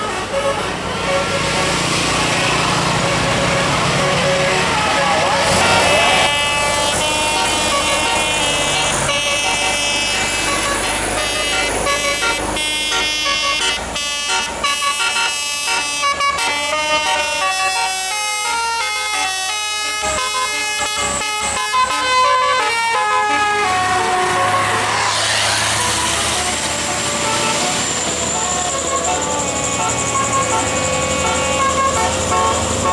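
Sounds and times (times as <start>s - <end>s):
musical air horn melody: 0.0s - 32.9s
vehicle engine: 0.0s - 32.9s.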